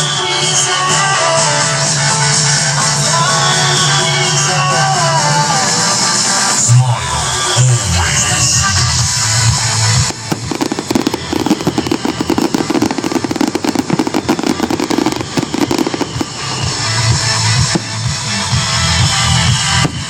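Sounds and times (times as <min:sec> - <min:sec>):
fireworks crackling: 0:00.0 - 0:20.0
loud show music: 0:00.0 - 0:20.0.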